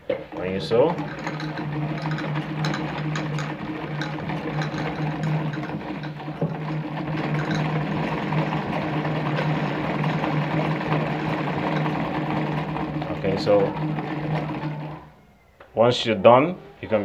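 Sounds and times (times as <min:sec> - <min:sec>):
sewing machine humming: 0:00.1 - 0:15.1.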